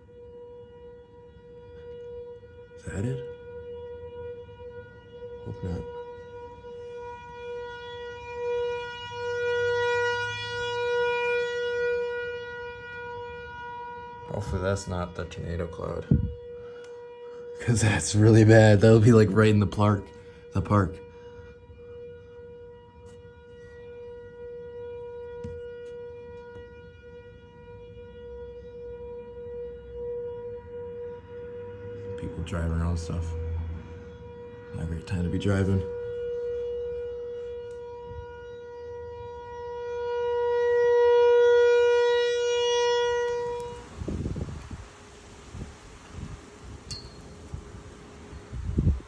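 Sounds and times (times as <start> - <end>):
warning siren steady tone: 0.0 - 49.0.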